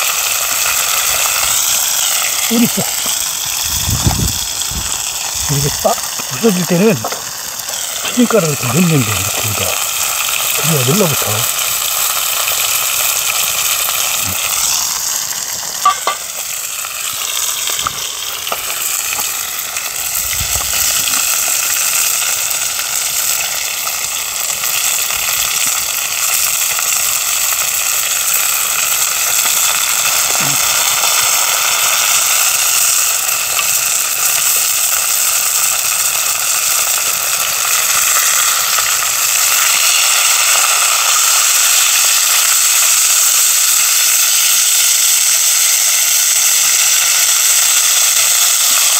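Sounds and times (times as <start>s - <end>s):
fish sizzling in hot oil: 0.0s - 48.9s.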